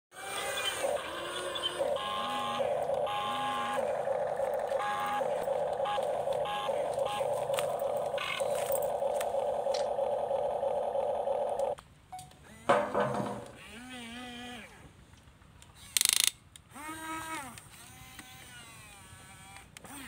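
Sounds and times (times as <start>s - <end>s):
toy excavator electric motor whining: 0.1s - 11.8s, 13.5s - 14.8s, 15.8s - 20.0s.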